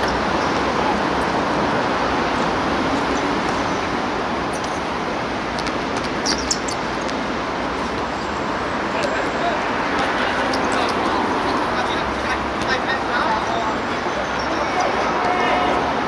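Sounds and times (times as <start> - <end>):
rushing outdoor background noise: 0.0 - 16.0.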